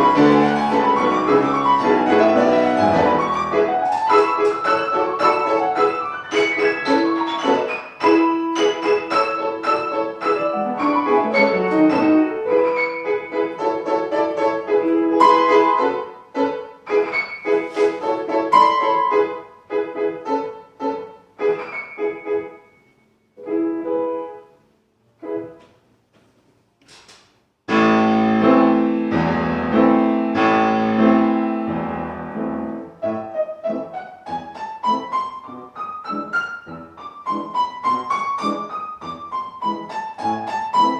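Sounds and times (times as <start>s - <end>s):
classical piano playing: 0.0s - 26.1s, 27.7s - 40.9s.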